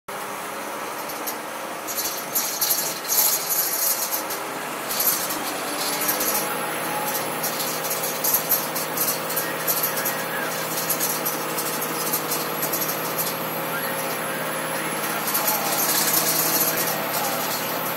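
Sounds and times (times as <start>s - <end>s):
truck engine running: 0.1s - 17.9s
tyres crackling on gravel: 0.2s - 17.9s.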